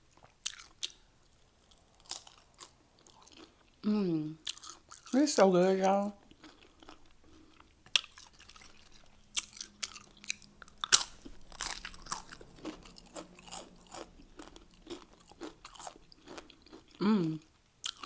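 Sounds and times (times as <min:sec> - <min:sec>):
chewing crunchy tortilla chips: 0:00.1 - 0:03.8, 0:04.4 - 0:05.2, 0:06.2 - 0:18.0.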